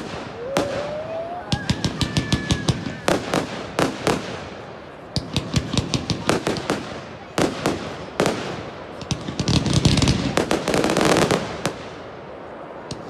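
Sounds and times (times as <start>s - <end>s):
fireworks cracks and pops: 0.0s - 12.1s.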